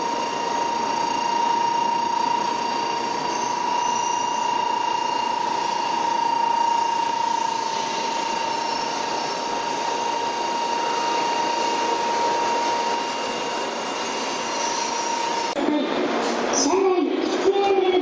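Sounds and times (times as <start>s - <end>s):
high-pitched whine: 0.0s - 18.0s.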